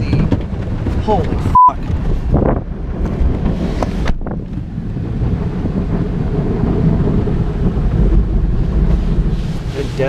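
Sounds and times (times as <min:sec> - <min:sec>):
car wash water rushing: 0:00.0 - 0:10.0.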